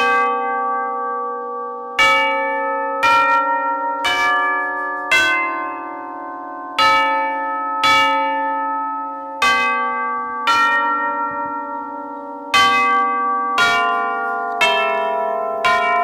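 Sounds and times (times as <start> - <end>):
tubular bells melody: 0.0 - 16.0.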